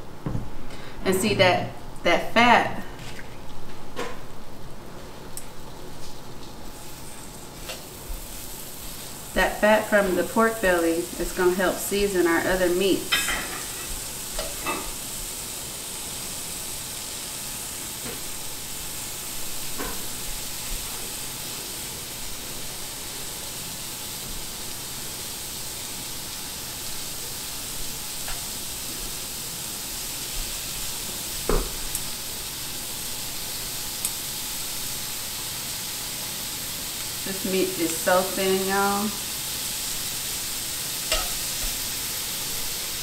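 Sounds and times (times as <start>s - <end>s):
food sizzling on a griddle: 3.9s - 43.0s.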